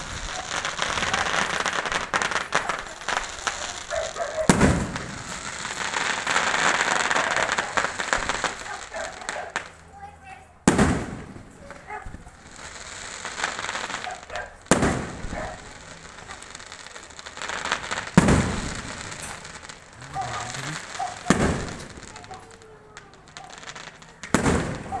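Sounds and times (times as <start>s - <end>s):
fireworks loud bangs: 0.0s - 9.9s, 10.6s - 25.0s
fireworks crackling: 0.0s - 25.0s.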